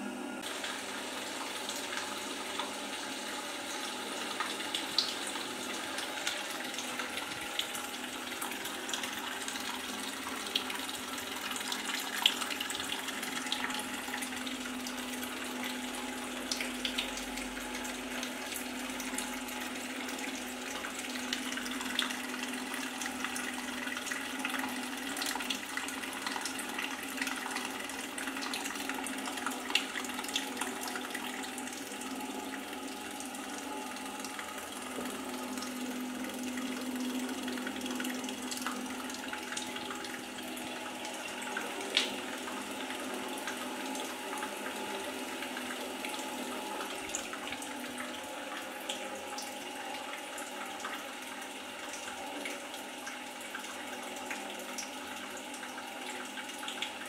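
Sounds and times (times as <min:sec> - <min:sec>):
coolant pump hum: 0:00.0 - 0:57.0
coolant pouring and splashing: 0:00.4 - 0:57.0.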